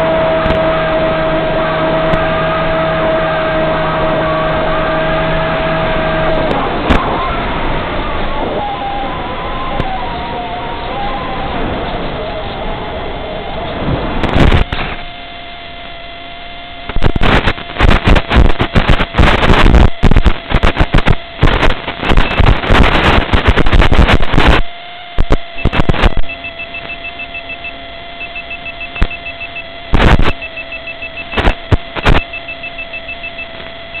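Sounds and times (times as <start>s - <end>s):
rapid beeping: 0.0s - 34.0s
steady electrical hum: 0.0s - 34.0s.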